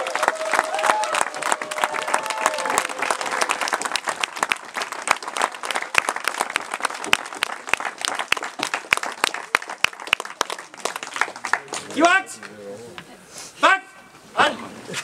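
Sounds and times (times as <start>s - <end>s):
people applauding: 0.0s - 12.5s.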